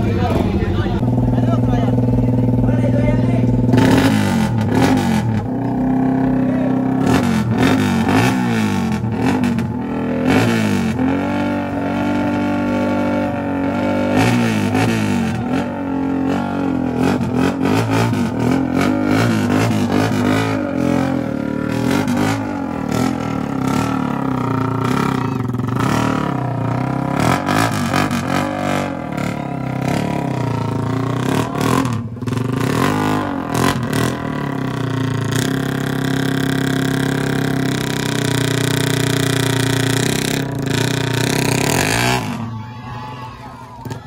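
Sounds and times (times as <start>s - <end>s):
motor scooter engine revving: 0.0s - 42.6s.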